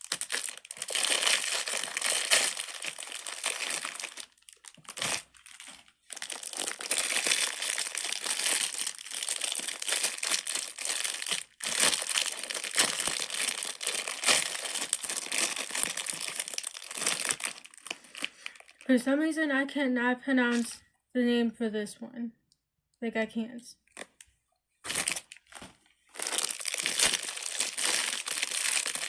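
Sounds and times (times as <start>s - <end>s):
crinkling packaging: 0.0s - 18.9s, 23.9s - 29.0s.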